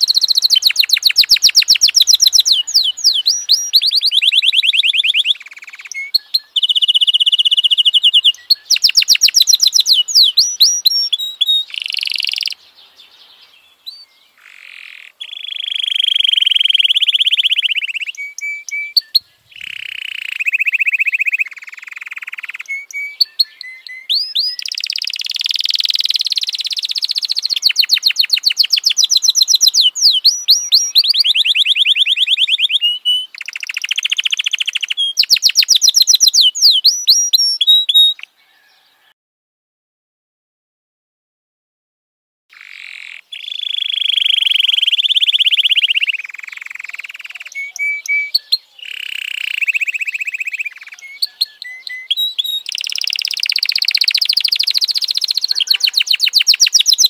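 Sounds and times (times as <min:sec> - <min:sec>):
canary singing trills: 0:00.0 - 0:39.1, 0:42.5 - 0:57.0.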